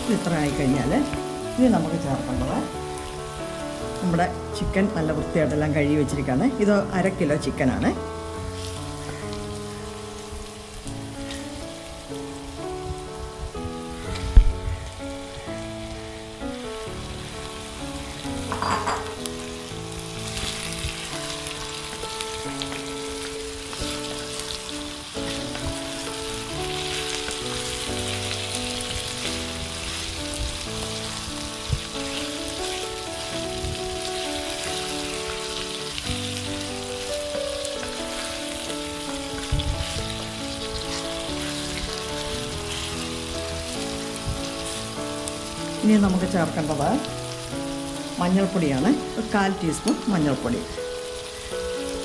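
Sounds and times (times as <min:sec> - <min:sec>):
chicken sizzling in hot oil: 0:00.0 - 0:52.0
soft background music: 0:00.0 - 0:52.0.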